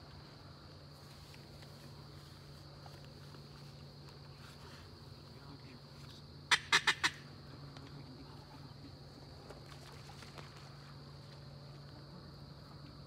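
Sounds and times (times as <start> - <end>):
high insect chirring: 0.0 - 13.0.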